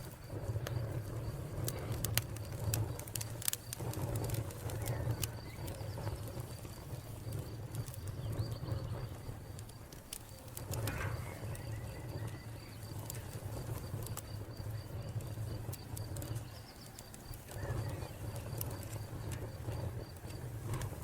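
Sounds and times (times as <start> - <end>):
cricket chirping: 0.0 - 21.0
wood fire crackling and popping: 0.0 - 21.0.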